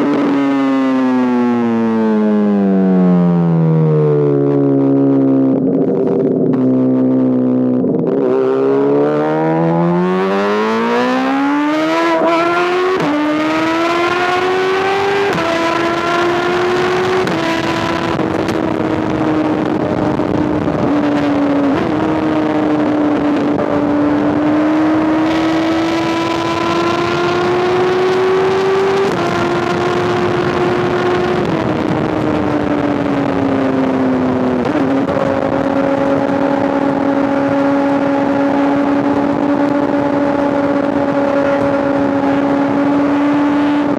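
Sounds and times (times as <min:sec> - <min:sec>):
motorcycle accelerating through gears: 0:00.0 - 0:43.9.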